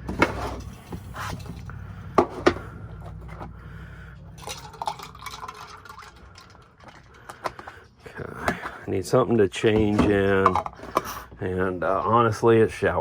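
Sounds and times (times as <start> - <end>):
objects knocking and clattering: 0.0 - 3.6, 4.2 - 11.4
faint low hum: 0.0 - 13.0.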